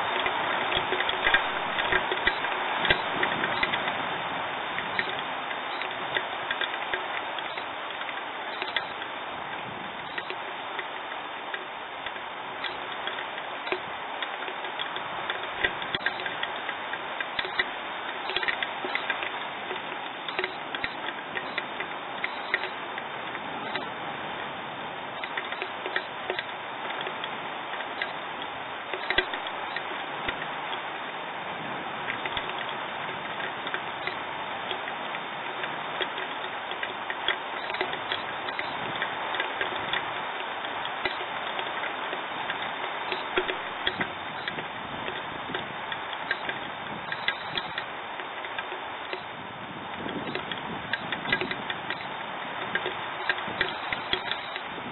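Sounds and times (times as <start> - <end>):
raindrops ticking on a surface: 0.0 - 54.9
steady rain hiss: 0.0 - 54.9.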